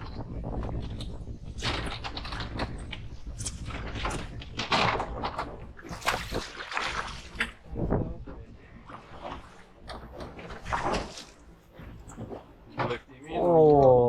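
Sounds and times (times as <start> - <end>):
water splashing against boat hull: 0.0 - 13.8
wind rumble on microphone: 0.0 - 14.0.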